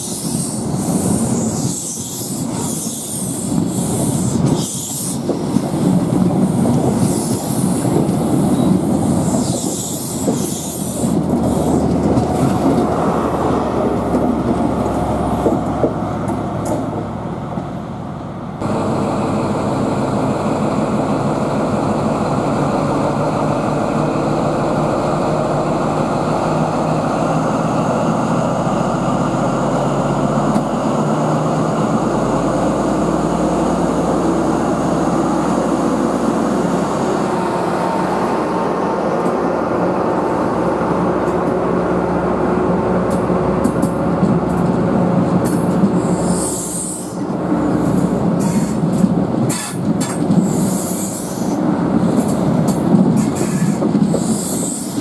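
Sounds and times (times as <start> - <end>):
train engine and wheels: 0.0 - 55.0.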